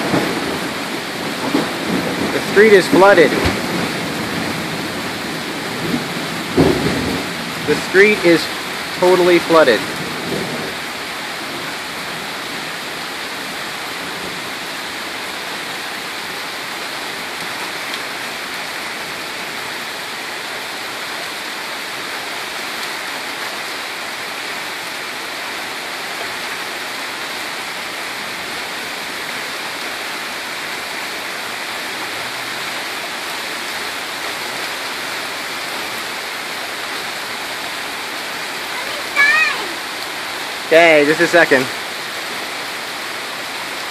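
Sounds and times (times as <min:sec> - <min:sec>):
floodwater rushing: 0:00.0 - 0:43.9
heavy rain: 0:00.0 - 0:43.9.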